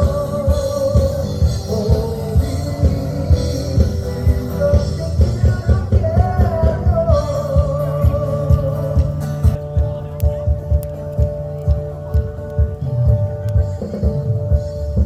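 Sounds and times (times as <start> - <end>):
loud music with sung melody: 0.0 - 15.0
steady drum beat: 0.0 - 15.0.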